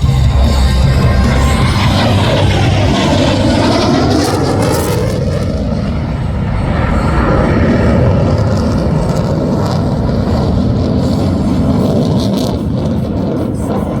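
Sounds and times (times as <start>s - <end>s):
aircraft rumbling overhead: 0.0s - 14.0s.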